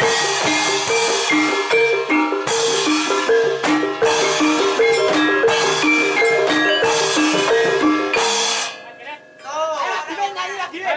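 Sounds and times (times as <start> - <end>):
drumming: 0.0 - 9.0
metal-keyed gamelan melody: 0.0 - 10.6.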